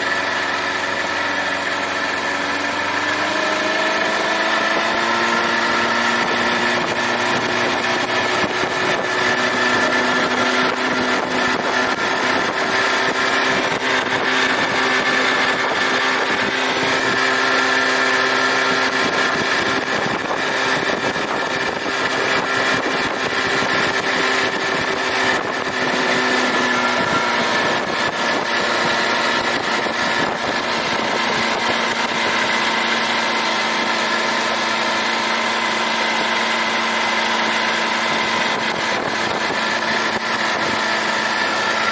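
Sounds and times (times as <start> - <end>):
outboard motor running: 0.0 - 41.9.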